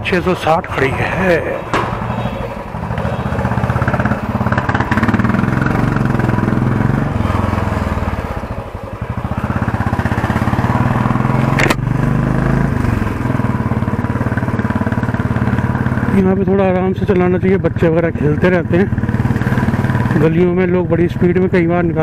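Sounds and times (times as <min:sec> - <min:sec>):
motorcycle engine thumping: 0:01.6 - 0:20.4.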